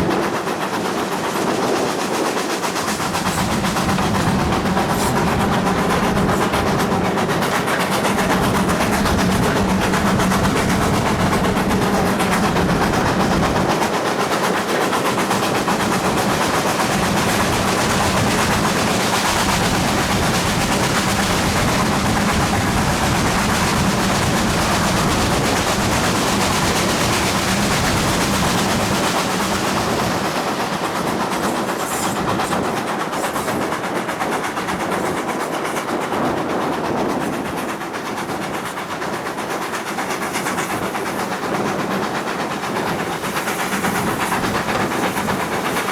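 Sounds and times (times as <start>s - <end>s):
steam locomotive exhaust chuffs: 0.0s - 45.9s
wheels rumbling on rail: 0.0s - 45.9s.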